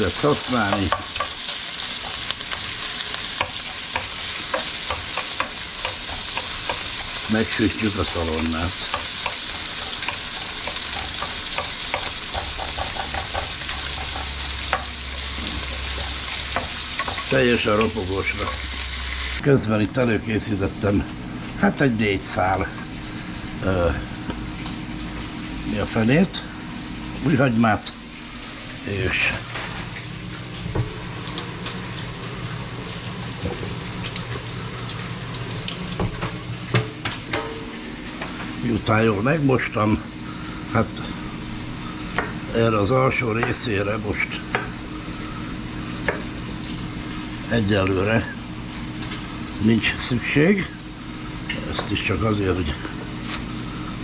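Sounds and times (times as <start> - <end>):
bacon sizzling in a pan: 0.0 - 19.4, 22.2 - 54.0.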